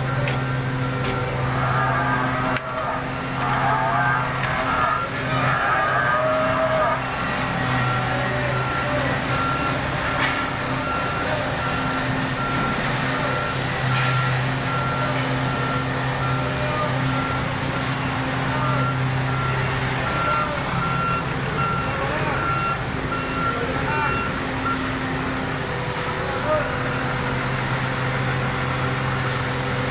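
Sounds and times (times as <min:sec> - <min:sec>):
engine running: 0:00.0 - 0:29.9
vehicle reversing alarm beeping: 0:00.0 - 0:29.9.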